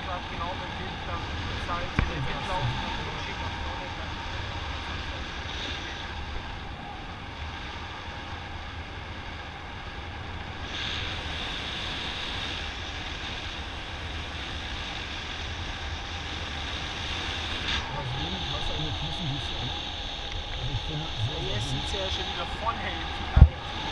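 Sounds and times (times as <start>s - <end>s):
wind rushing over microphone: 0.0s - 23.9s.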